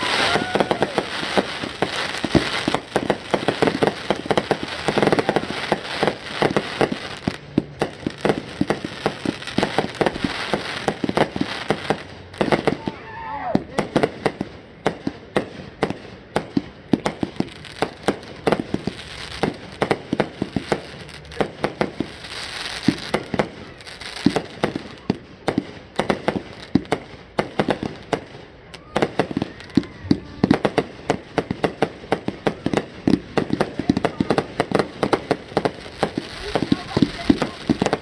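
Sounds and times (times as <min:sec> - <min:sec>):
fireworks hiss: 0:00.0 - 0:12.9, 0:16.9 - 0:28.3, 0:29.3 - 0:38.0
fireworks bangs: 0:00.0 - 0:38.0.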